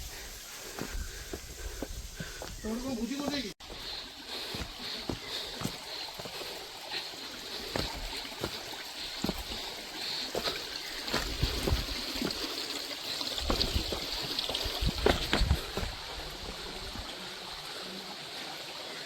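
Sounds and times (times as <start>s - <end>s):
stream running: 0.0s - 19.0s
footsteps on stones: 0.1s - 12.6s, 13.4s - 17.2s.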